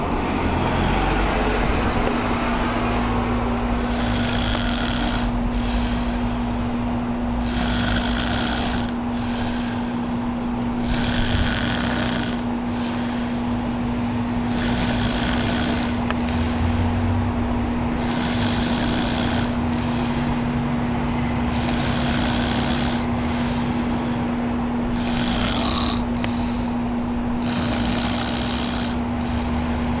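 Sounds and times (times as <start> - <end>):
man snoring deeply: 0.0 - 1.9, 3.7 - 6.8, 7.4 - 17.2, 17.9 - 20.6, 21.4 - 30.0
steady low hum: 0.0 - 30.0.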